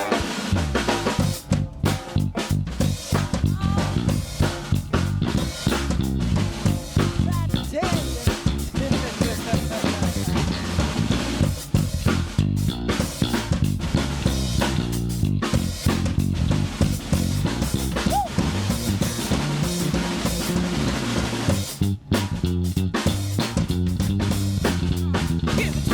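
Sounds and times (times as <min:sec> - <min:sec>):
live rock band instrumental: 0:00.0 - 0:25.9.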